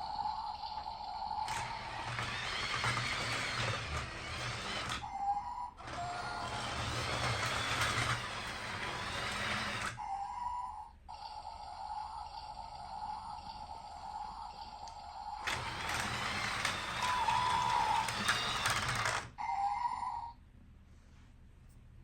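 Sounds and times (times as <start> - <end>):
toy train mechanical noise: 0.0 - 20.2.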